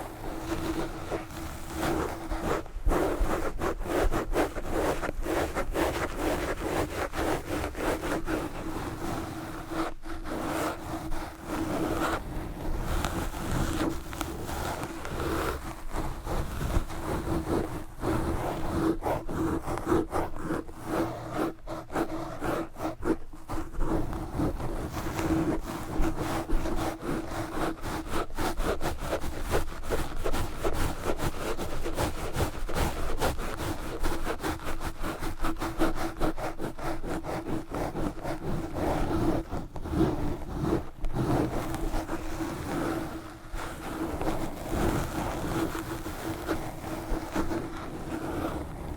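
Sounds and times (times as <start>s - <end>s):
wool gloves scratching a microphone: 0.0s - 48.9s.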